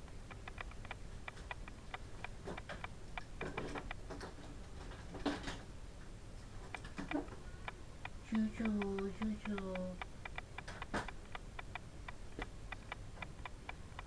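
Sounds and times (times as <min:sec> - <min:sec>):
steady ticking: 0:00.0 - 0:04.1, 0:06.7 - 0:14.0.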